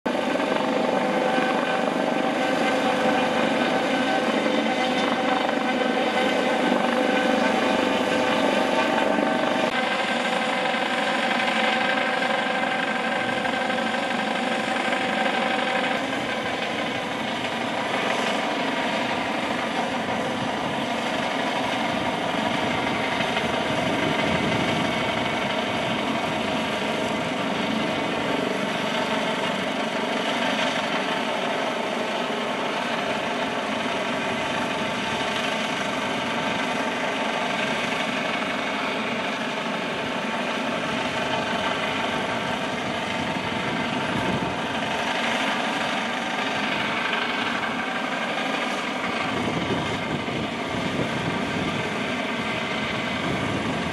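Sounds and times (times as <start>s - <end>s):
helicopter rotor noise: 0.1s - 53.9s
helicopter turbine whine: 0.1s - 53.9s.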